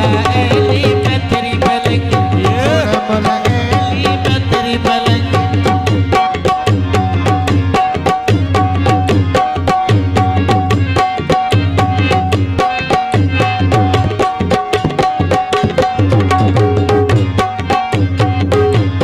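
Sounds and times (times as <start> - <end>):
fast hand-drum beat: 0.0 - 19.0
harmonium melody: 0.0 - 19.0.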